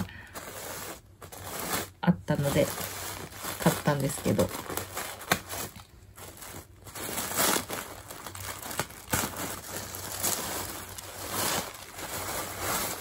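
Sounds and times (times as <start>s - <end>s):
paper wrapping crinkling: 0.0s - 13.0s.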